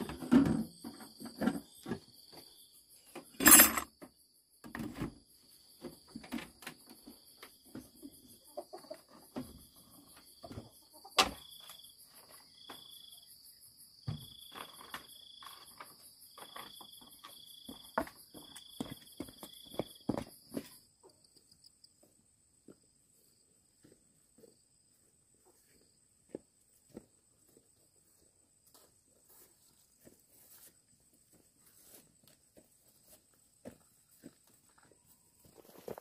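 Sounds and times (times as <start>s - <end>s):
knocks and thumps of outdoor work: 0.0s - 13.2s, 14.0s - 21.3s, 22.0s - 36.0s.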